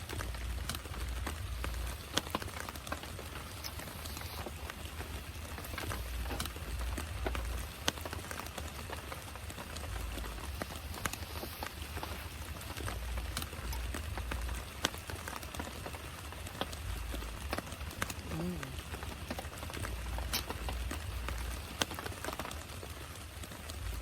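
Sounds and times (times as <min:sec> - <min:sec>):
heavy rain falling: 0:00.0 - 0:24.0
low uneven rumble: 0:00.0 - 0:24.0.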